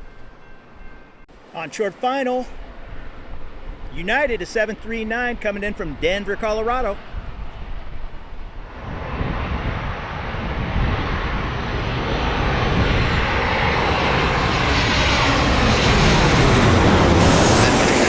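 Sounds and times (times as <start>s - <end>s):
rushing air: 2.4s - 18.0s
jet airliner engine noise: 2.5s - 18.0s.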